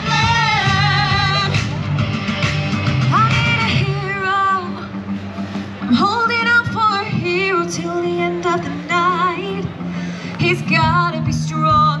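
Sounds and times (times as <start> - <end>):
woman singing pop-rock song: 0.0 - 1.6, 3.0 - 5.0, 5.8 - 12.0
backing track with low bass: 0.0 - 12.0.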